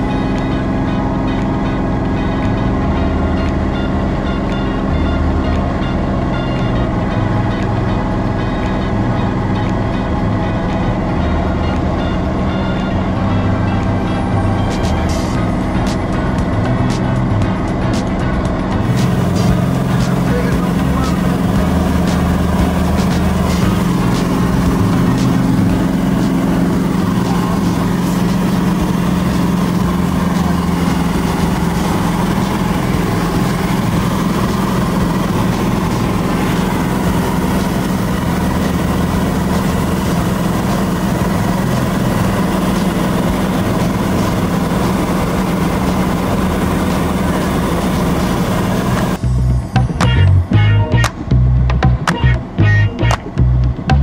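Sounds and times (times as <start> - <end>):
aircraft engine and propeller drone: 0.0 - 51.3, 52.2 - 54.0
music: 0.0 - 54.0.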